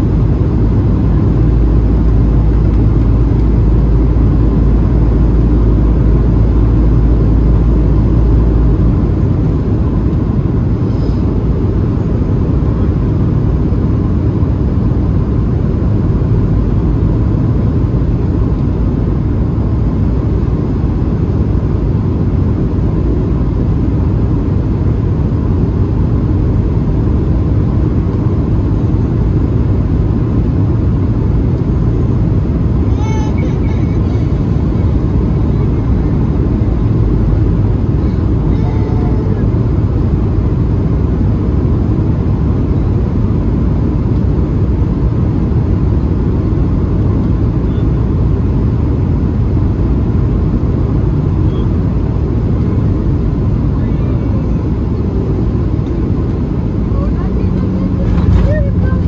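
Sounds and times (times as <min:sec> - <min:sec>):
airplane cabin rumble and hiss: 0:00.0 - 0:59.0.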